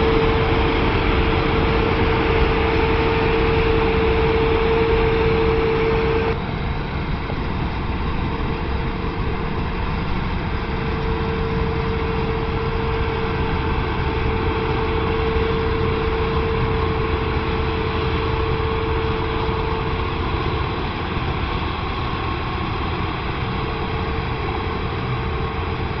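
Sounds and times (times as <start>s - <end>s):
combine harvester engine drone: 0.0s - 26.0s
machinery whine: 0.0s - 26.0s.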